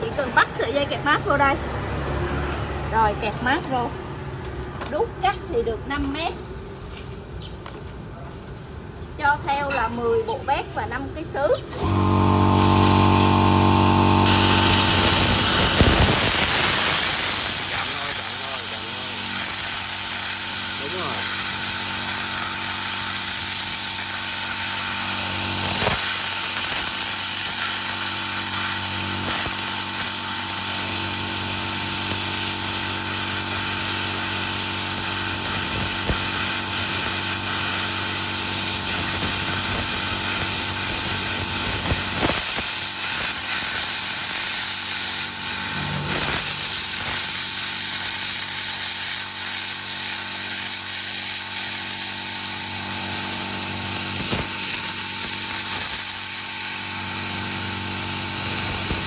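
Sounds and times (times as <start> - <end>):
motor hum: 11.7 - 59.0
plasma cutter hiss: 11.7 - 59.0.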